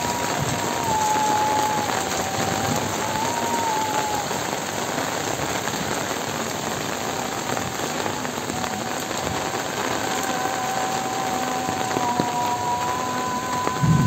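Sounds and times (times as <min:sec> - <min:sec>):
heavy rain on foliage: 0:00.0 - 0:14.0.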